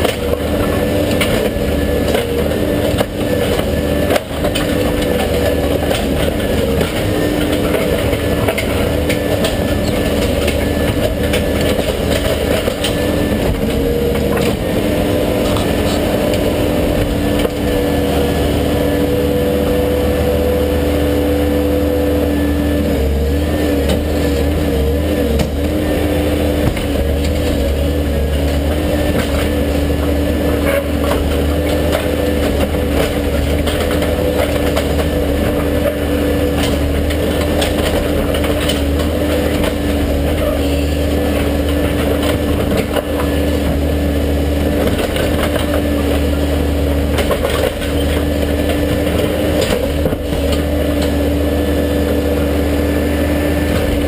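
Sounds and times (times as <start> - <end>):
knocks and scrapes on pavement: 0.0 - 17.6, 23.8 - 51.3
diesel engine running: 0.0 - 54.0.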